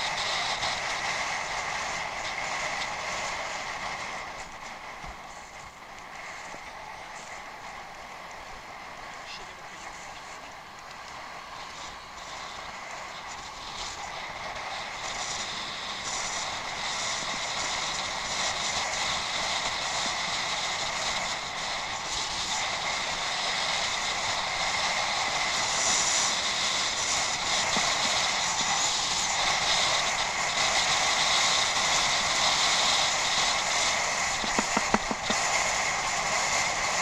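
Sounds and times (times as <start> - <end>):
bicycle tyres on rough ground: 0.0 - 37.0.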